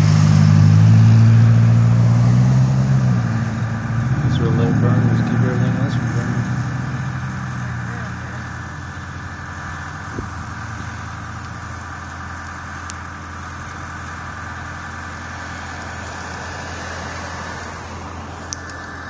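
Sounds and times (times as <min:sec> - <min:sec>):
car driving past: 0:00.0 - 0:12.8, 0:13.7 - 0:19.0
vehicle engine idling: 0:00.0 - 0:19.0.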